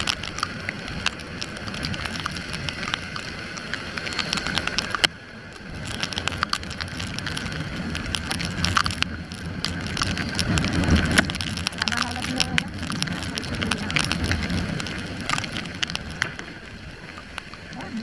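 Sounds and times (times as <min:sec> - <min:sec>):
heavy rain and wind: 0:00.0 - 0:18.0
low rumble: 0:00.0 - 0:18.0
raindrops ticking on camera: 0:00.0 - 0:18.0.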